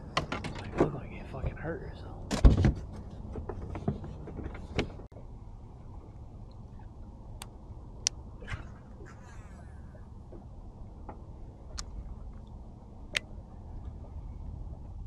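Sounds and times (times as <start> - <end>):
wind and water noise: 0.0 - 15.0.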